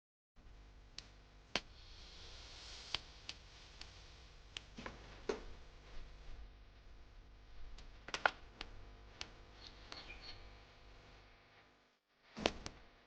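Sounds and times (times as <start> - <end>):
soft hiss: 0.4 - 13.0
wood fire crackling: 0.6 - 11.2.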